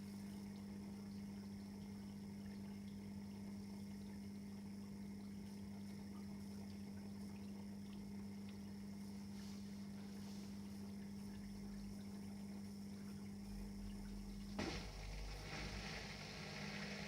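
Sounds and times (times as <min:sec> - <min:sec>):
faint high whine: 0:00.0 - 0:17.0
washing machine hum: 0:00.0 - 0:17.0
water noise: 0:00.0 - 0:17.0.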